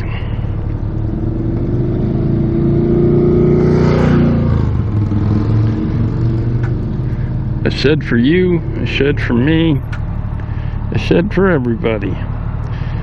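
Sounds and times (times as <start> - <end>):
motorcycle engine cruising: 0.0 - 13.0
road and wind noise: 0.0 - 13.0.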